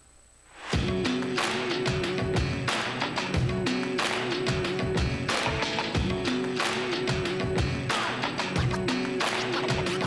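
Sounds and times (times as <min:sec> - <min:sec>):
music with percussive hits: 0:00.7 - 0:10.0.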